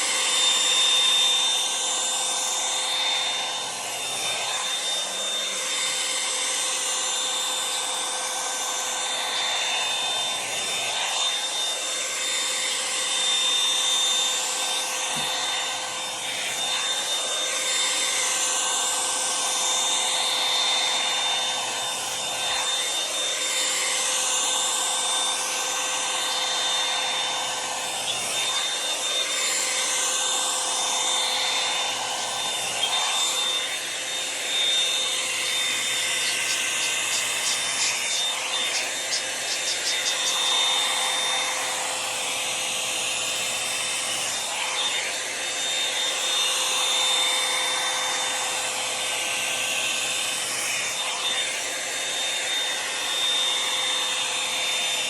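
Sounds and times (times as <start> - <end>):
hair dryer brush running: 0.0 - 55.0.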